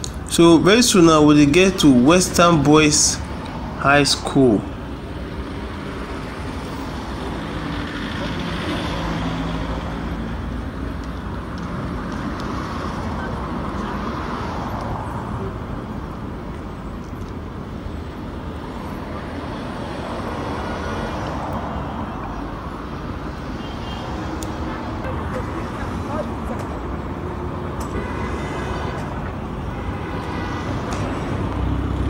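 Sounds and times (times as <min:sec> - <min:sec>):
road traffic: 0:00.0 - 0:32.0.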